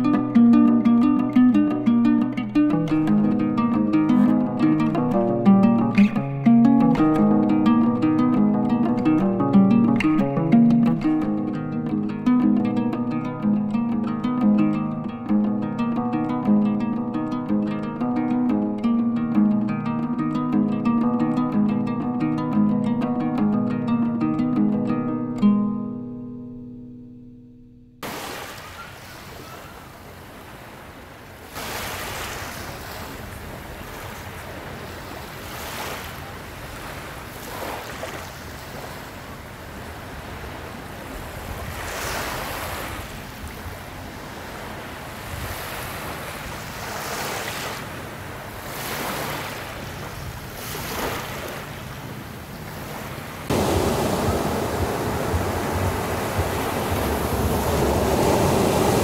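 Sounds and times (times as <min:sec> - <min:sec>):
waves breaking and washing in: 0:00.0 - 0:26.0, 0:28.0 - 0:59.0
wind: 0:00.0 - 0:59.0.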